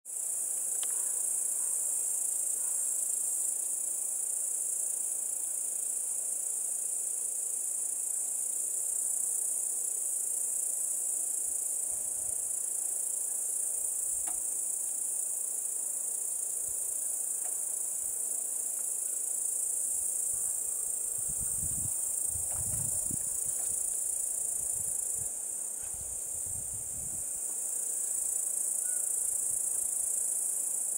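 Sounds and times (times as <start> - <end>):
insects singing: 0.1 - 30.9.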